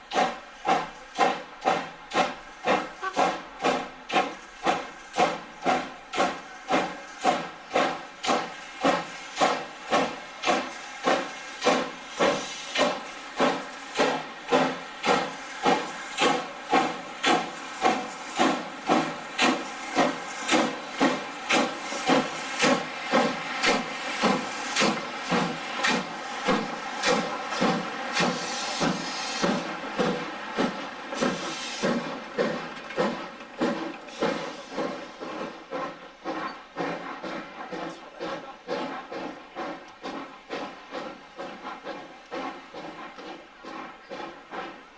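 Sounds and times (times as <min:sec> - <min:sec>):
steam locomotive chuffing: 0:00.0 - 0:44.9.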